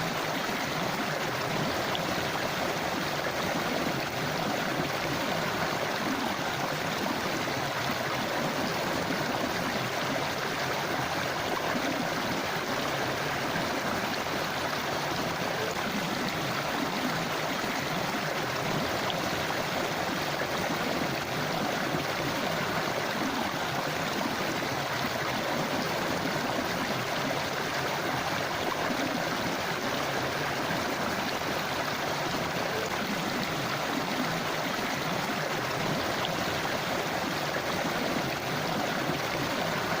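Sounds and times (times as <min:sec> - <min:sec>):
river flowing over rocks: 0:00.0 - 0:40.0.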